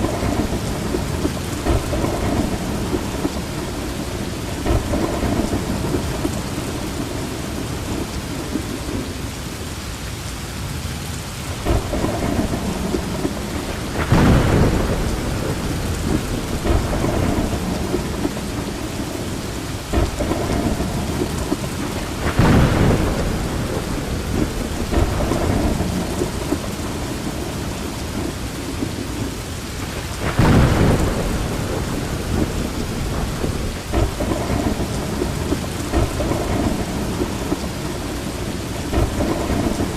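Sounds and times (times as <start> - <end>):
rolling thunder: 0.0 - 9.2, 11.5 - 39.9
steady rain: 0.0 - 39.9.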